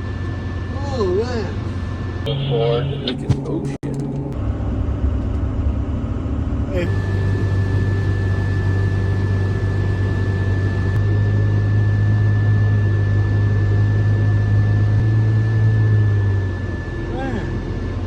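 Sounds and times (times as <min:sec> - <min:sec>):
high-pitched whine: 0:00.0 - 0:18.0
vehicle engine running: 0:00.0 - 0:18.0.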